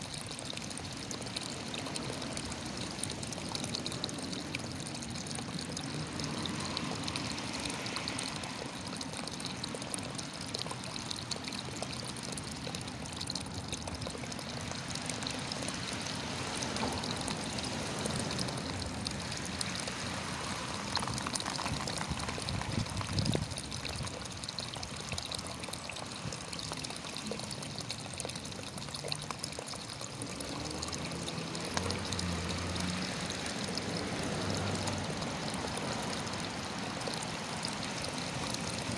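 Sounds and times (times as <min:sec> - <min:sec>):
water drips and splashes: 0:00.0 - 0:38.9
water trickling: 0:00.0 - 0:38.9.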